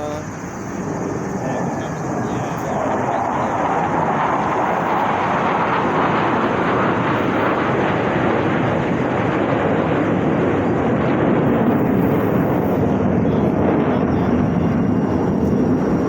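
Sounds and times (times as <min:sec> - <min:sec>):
planes flying overhead: 0:00.0 - 0:16.0.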